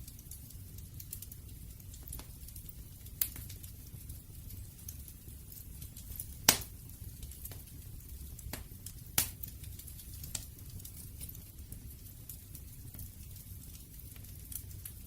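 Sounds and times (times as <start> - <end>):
low rumble of flames: 0.0 - 15.0
pops of burning wood: 0.0 - 15.0.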